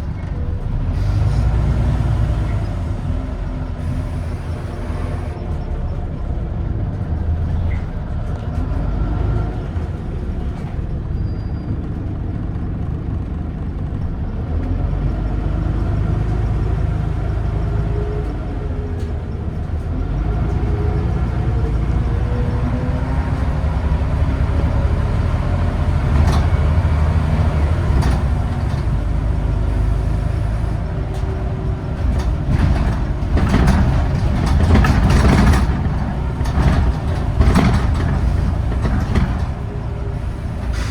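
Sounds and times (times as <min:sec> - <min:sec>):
bus diesel engine: 0:00.0 - 0:40.9
bus knocks and rattles: 0:00.0 - 0:40.9.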